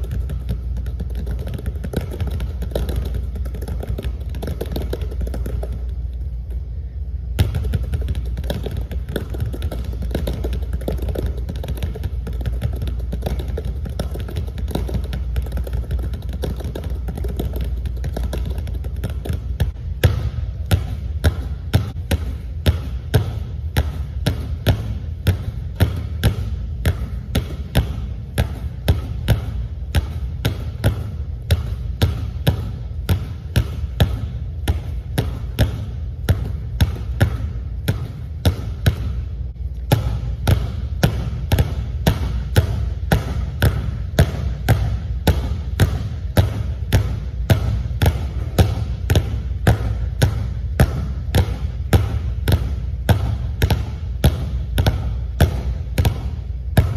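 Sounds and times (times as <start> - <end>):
basketballs bouncing on wooden floor: 0.0 - 56.9
steady low hum: 0.0 - 56.9.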